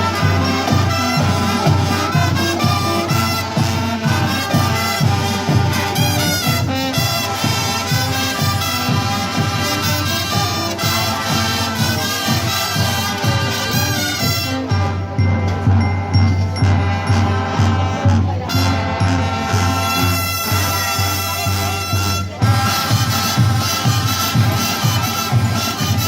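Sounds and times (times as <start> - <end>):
marching brass band playing: 0.0 - 26.0.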